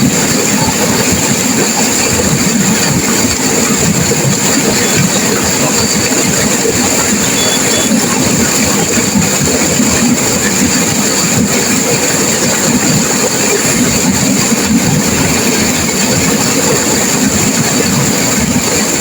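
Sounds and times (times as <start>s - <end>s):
river rushing through rapids: 0.0s - 19.0s.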